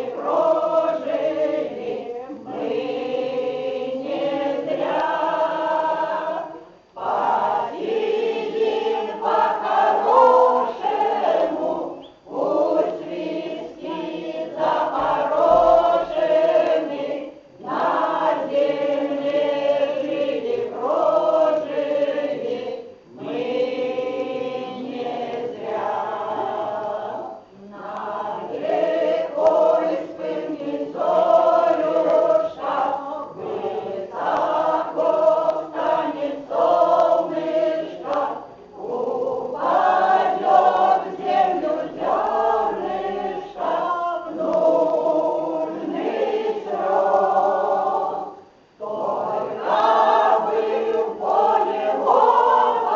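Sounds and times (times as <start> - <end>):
mixed choir singing: 0.0 - 52.9.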